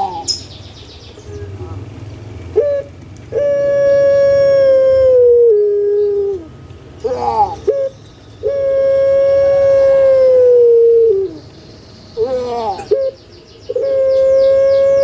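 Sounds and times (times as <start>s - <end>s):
dove calling: 0.0s - 15.0s.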